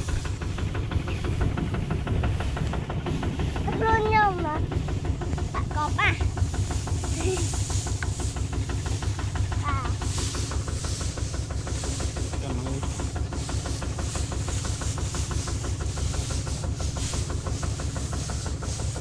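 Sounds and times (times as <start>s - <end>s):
hiss: 0.0s - 19.0s
tractor diesel engine running: 0.0s - 19.0s.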